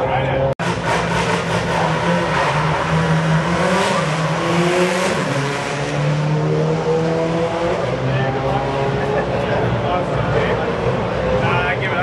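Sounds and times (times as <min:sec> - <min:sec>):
rally car engine revving: 0:00.3 - 0:12.0.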